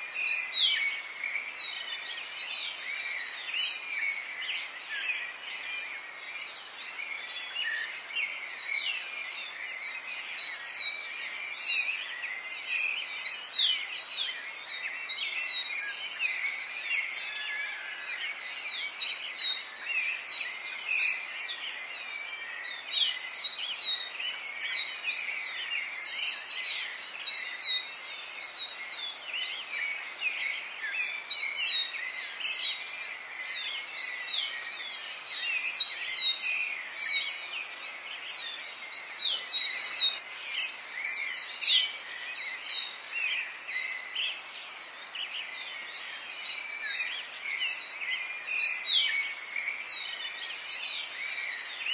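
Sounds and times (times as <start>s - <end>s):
steady background hiss: 0.1s - 51.9s
birds chirping: 0.2s - 51.9s.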